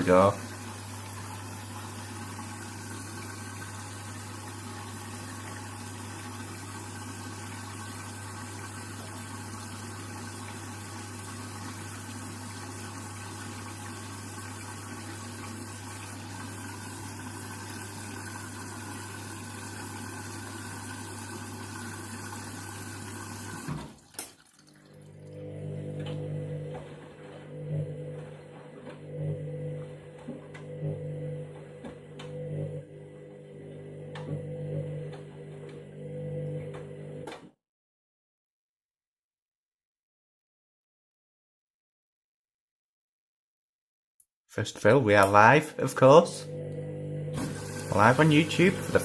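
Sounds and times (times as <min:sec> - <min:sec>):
water rushing into washing machine: 0:00.0 - 0:37.3, 0:45.1 - 0:49.0.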